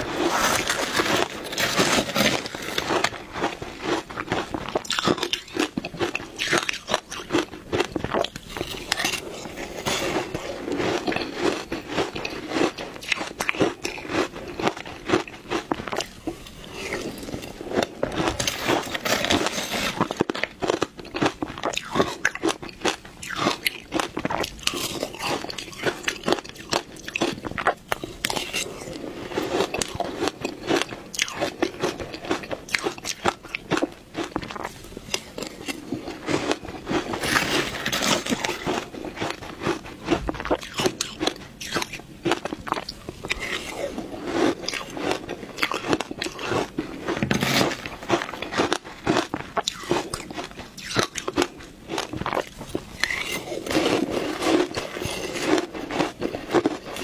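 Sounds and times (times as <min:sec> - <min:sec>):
crunching ice in mouth: 0:00.0 - 0:57.0.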